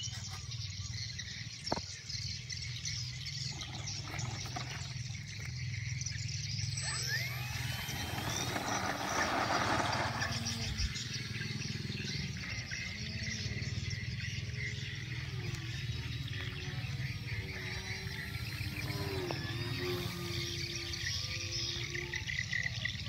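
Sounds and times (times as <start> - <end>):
plane engine droning: 1.5 - 23.0.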